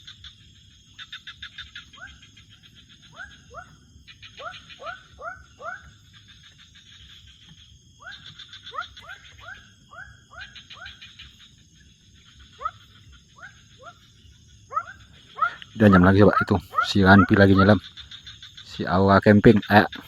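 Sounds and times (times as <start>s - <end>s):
frogs calling: 0.0s - 20.0s.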